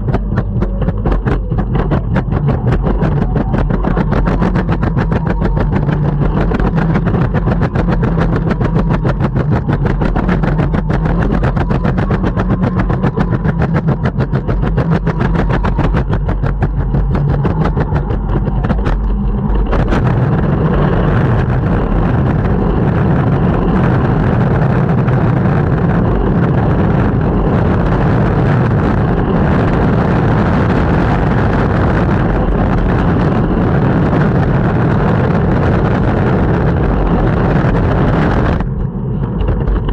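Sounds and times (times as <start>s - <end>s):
longboard wheels rolling on street: 0.0s - 39.9s
rapid clicking rattle: 0.0s - 39.9s.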